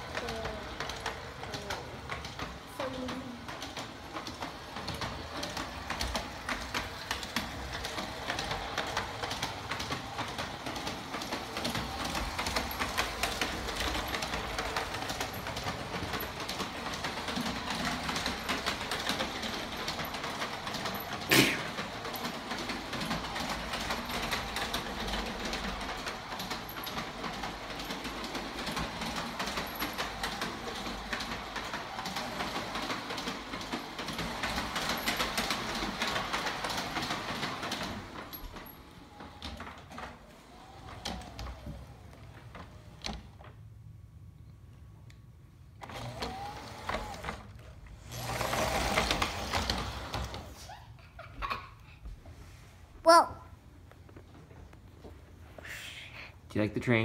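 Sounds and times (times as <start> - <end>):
toy train wheels clicking on rails: 0.0 - 42.0, 45.8 - 50.8
steady mechanical hum: 0.0 - 57.0.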